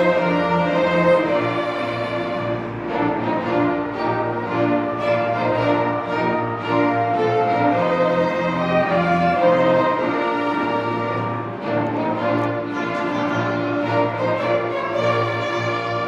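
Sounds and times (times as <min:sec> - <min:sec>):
acoustic hymn ensemble music: 0:00.0 - 0:16.0.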